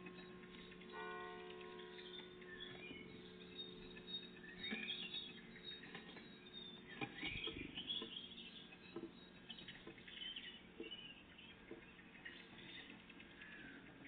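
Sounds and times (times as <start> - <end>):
songbirds chirping and singing: 0.0 - 14.0.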